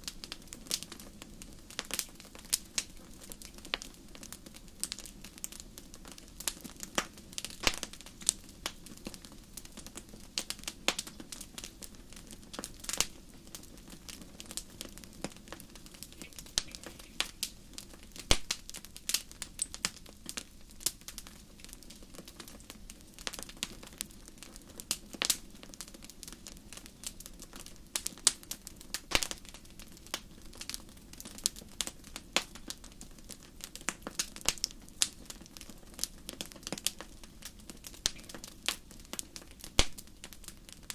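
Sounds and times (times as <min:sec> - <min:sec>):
soft hiss of flames: 0:00.0 - 0:40.9
wood fire pops and snaps: 0:00.0 - 0:40.9.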